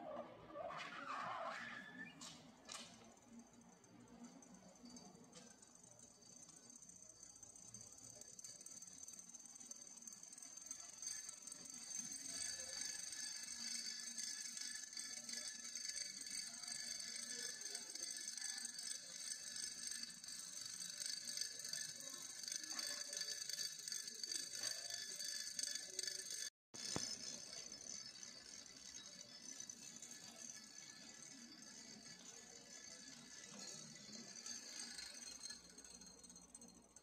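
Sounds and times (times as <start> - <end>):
steam engine spinning rattle: 2.7 - 37.0.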